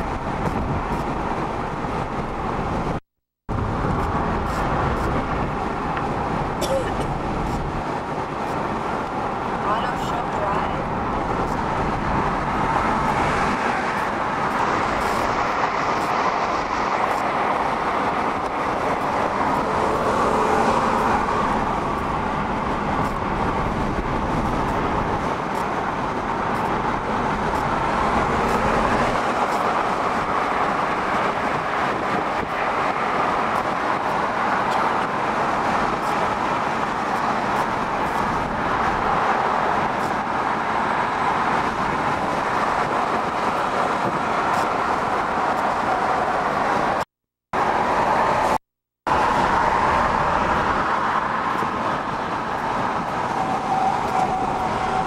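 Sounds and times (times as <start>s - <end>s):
car road and tyre noise: 0.0s - 55.0s.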